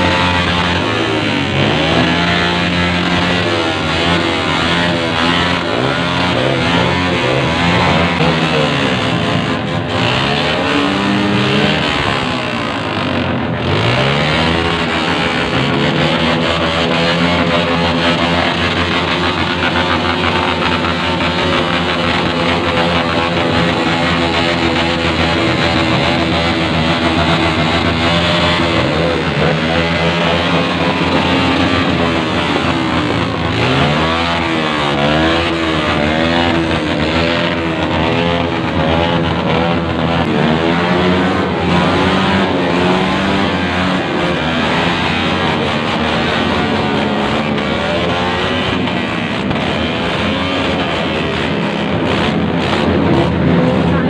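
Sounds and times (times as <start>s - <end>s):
motorcycles revving: 0.0s - 54.0s.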